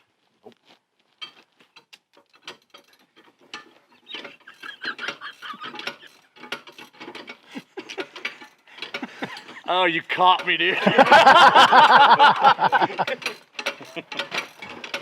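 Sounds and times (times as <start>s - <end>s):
metal hand tools clinking: 1.2s - 15.0s.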